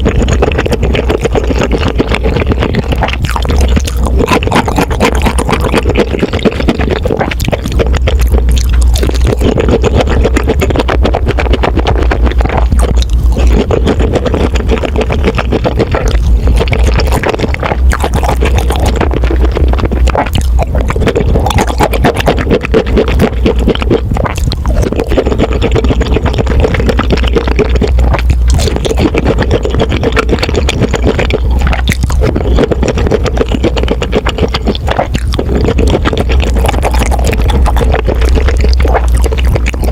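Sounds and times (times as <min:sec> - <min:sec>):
crunching and chewing fried food: 0:00.0 - 0:39.9.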